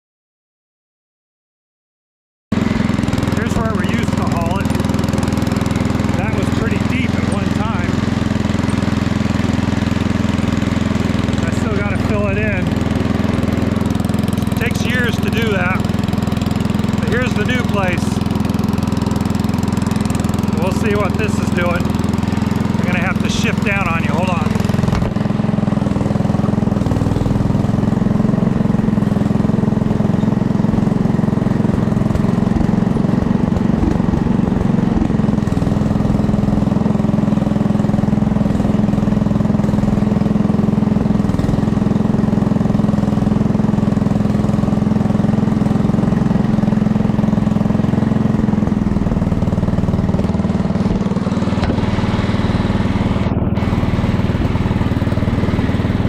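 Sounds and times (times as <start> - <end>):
small vehicle engine running: 2.5 - 56.0.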